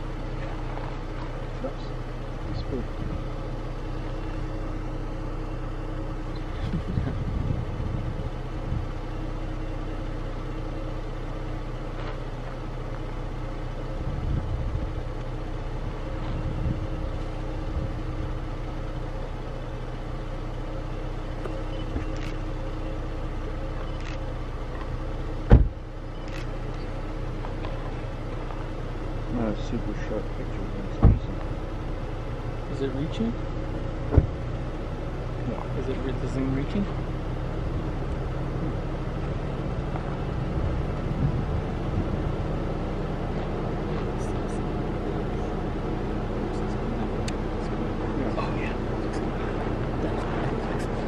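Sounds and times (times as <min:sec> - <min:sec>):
vehicle engine idling: 0:00.0 - 0:51.0.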